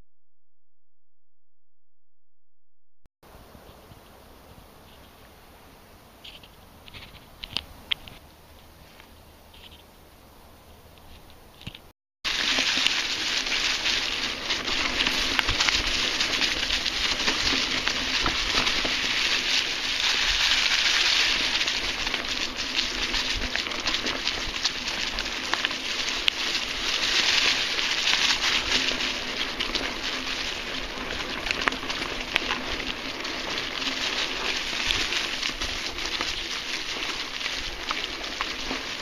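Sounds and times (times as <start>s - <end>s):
bike tyres rolling over dry leaves: 3.3s - 9.9s, 11.0s - 39.0s.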